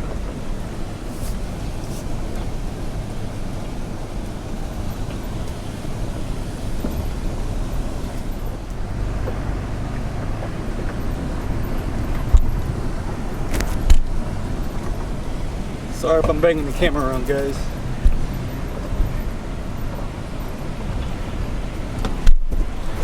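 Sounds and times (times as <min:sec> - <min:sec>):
pickup engine rumbling: 0:00.0 - 0:23.0.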